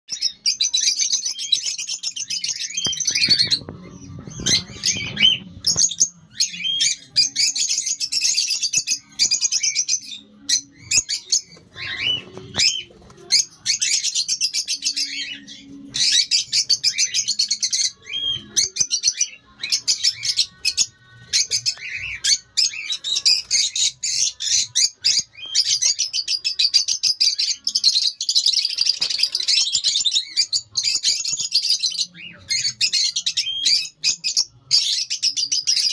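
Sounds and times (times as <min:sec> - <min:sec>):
lovebirds chirping: 0:00.1 - 0:35.9.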